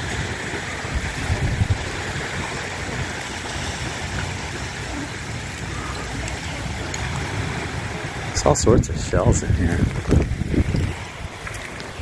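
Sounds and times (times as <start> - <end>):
small waves washing onto beach: 0.0 - 12.0
wind buffeting microphone: 0.0 - 12.0.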